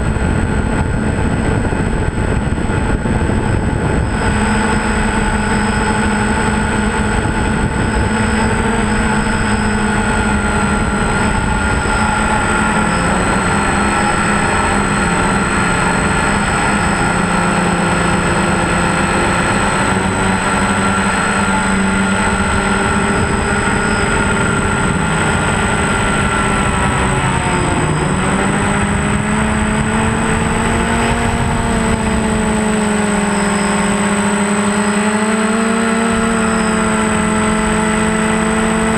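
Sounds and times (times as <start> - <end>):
wind rushing: 0.0 - 33.4
drone motors buzzing whine: 0.0 - 38.9.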